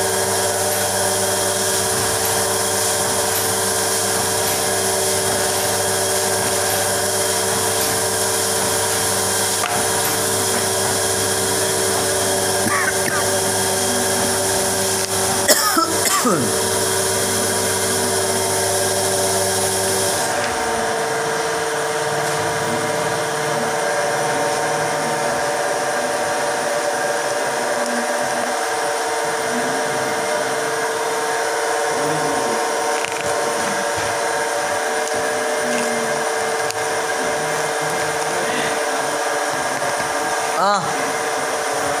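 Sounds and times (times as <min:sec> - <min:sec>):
motor humming: 0:00.0 - 0:42.0.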